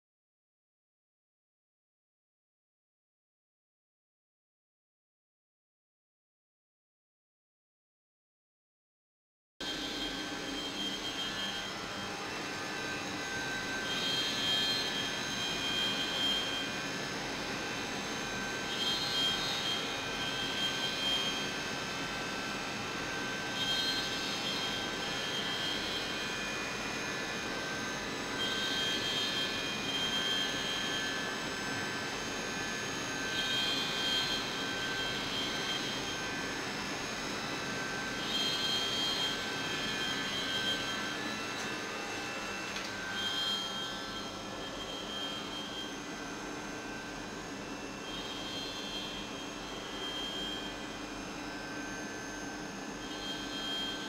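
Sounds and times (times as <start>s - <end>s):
milling machine whine: 9.6s - 54.0s.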